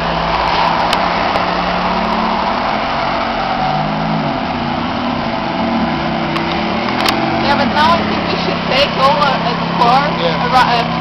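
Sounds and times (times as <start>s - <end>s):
car engine running slowly: 0.0s - 11.0s.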